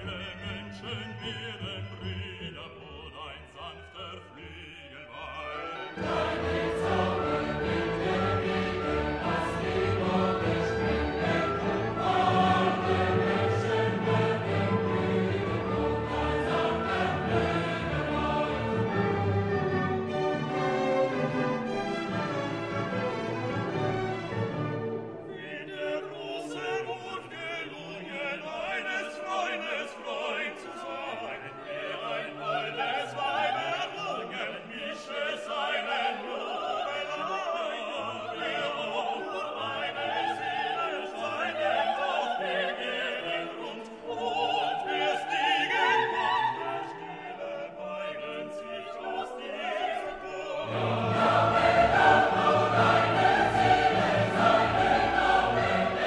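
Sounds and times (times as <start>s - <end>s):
choir singing: 0.0s - 56.0s
orchestral music: 0.0s - 56.0s.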